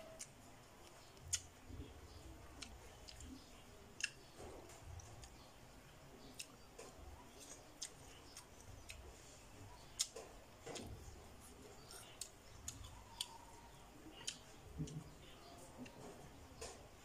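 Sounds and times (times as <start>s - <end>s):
mouth chewing apple: 0.0s - 17.0s.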